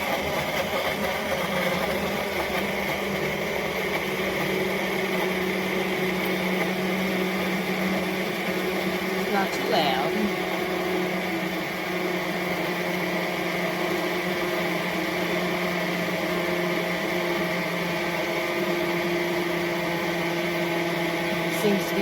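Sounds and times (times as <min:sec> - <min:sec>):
portable blender running: 0:00.0 - 0:22.0.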